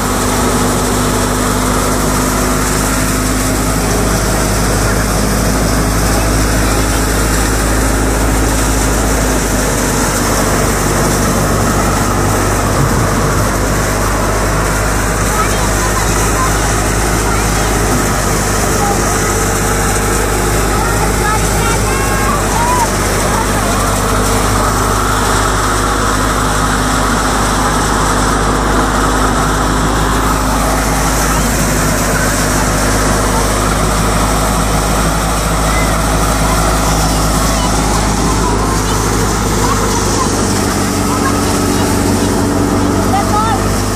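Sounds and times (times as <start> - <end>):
low hum of machine drive: 0.0 - 43.9
threshing machine running: 0.0 - 43.9.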